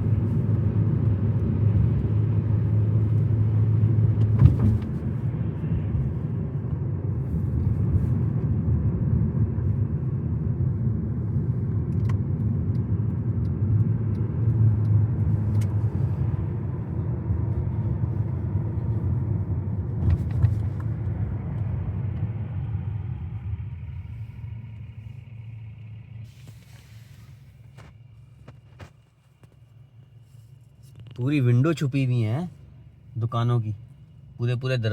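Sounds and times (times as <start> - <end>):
car engine and tyres rumbling: 0.0 - 34.9.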